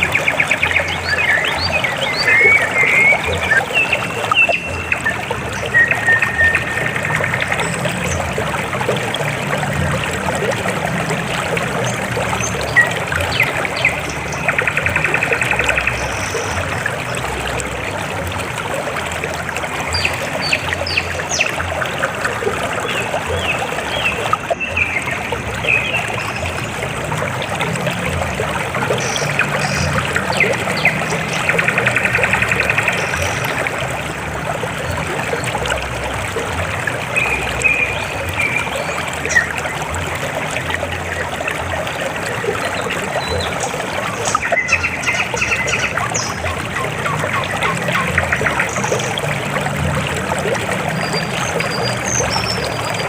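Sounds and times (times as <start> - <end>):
river flowing over rocks: 0.0 - 53.0.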